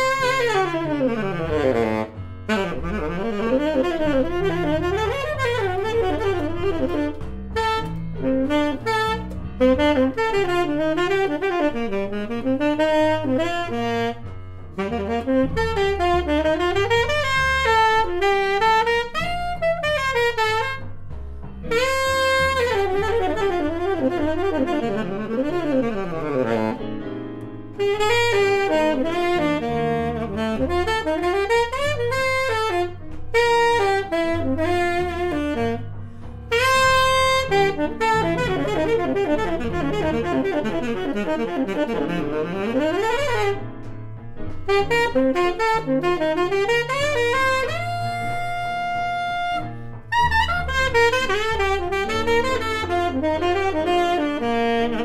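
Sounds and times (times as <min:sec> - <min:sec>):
solo jazz tenor saxophone: 0:00.0 - 0:55.0.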